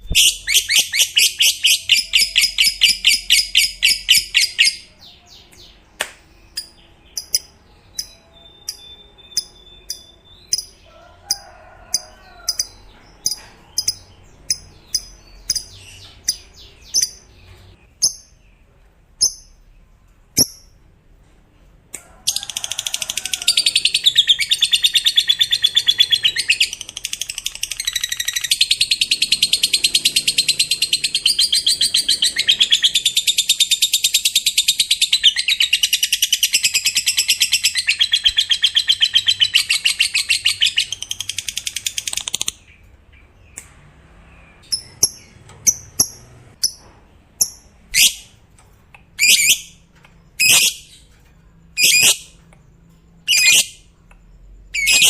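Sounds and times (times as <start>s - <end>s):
lovebird chirping and chattering: 0.0s - 18.6s, 19.2s - 19.6s, 20.4s - 20.8s, 22.6s - 43.6s, 47.4s - 51.1s, 51.7s - 55.0s.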